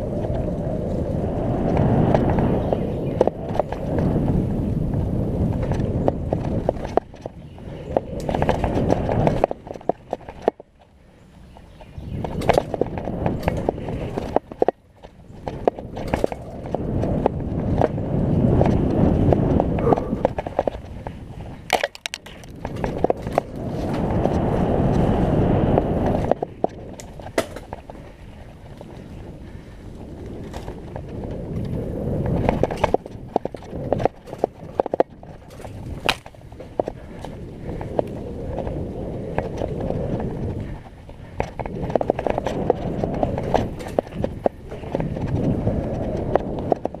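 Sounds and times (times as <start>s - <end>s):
bike tyres rolling over dirt: 0.0s - 47.0s
wind on microphone: 0.0s - 47.0s
bike frame and chain rattling: 3.5s - 25.2s, 26.0s - 47.0s.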